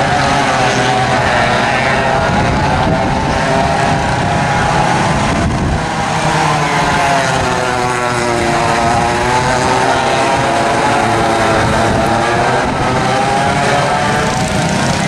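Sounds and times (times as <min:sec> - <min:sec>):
go-kart engines racing: 0:00.0 - 0:15.0.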